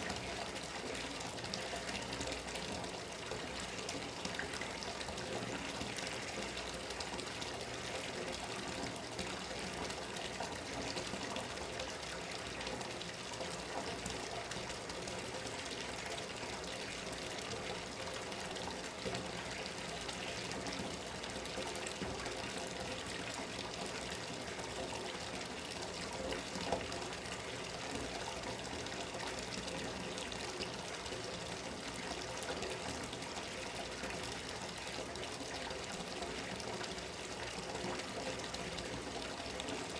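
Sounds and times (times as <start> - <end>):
tap water pouring into tub: 0.0 - 39.9.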